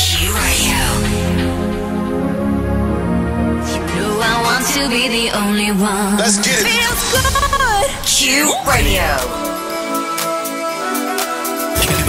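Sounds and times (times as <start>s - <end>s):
held music chords: 0.0s - 12.0s.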